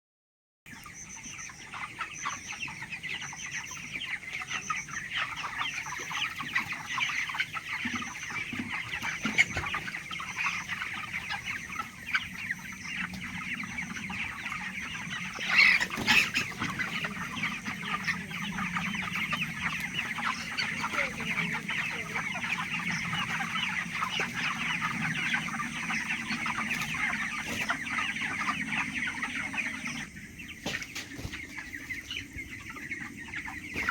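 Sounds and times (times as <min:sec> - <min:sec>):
chickens clucking and cheeping: 0:00.7 - 0:33.9.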